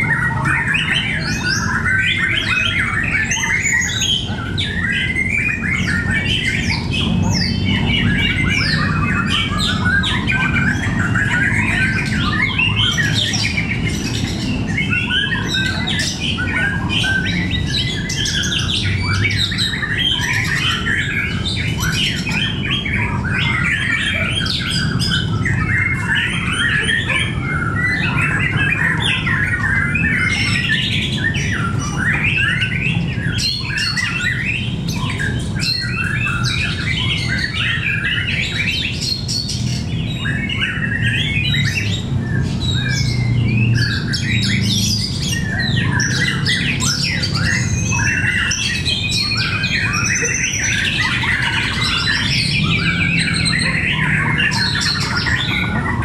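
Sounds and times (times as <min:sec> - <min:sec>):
birds singing and calling: 0:00.0 - 0:56.0.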